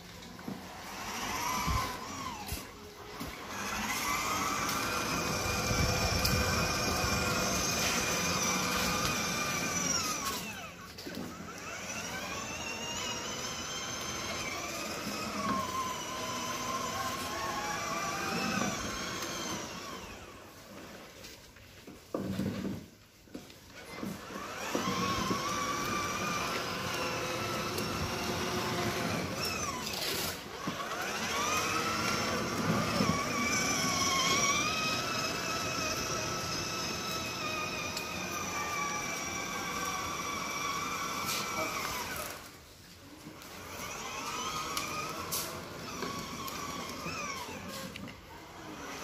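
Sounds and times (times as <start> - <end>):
electric motors whining: 0.0 - 21.4, 23.4 - 49.0.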